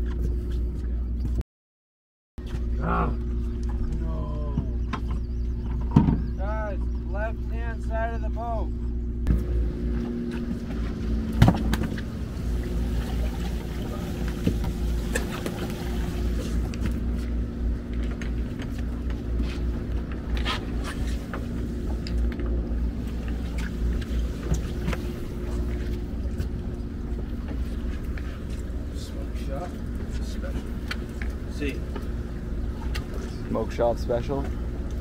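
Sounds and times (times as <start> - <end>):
boat engine rumbling: 0.0 - 1.4, 2.4 - 35.0.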